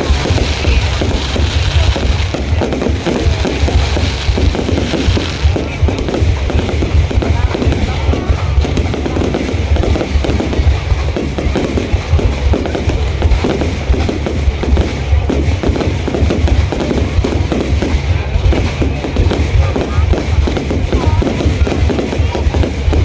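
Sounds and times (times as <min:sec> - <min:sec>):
deep rumble: 0:00.0 - 0:23.0
fireworks bangs and crackles: 0:00.0 - 0:23.0.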